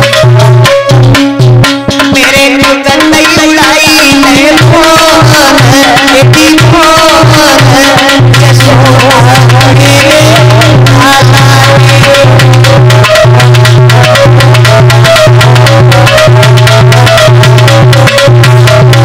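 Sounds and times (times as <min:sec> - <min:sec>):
hand drums beating: 0:00.0 - 0:19.0
wavering melody line: 0:00.0 - 0:19.0.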